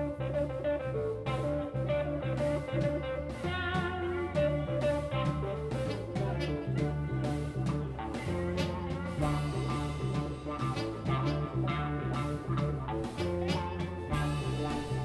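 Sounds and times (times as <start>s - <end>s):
blues-rock band playing: 0.0s - 15.0s
saxophone: 0.0s - 15.0s.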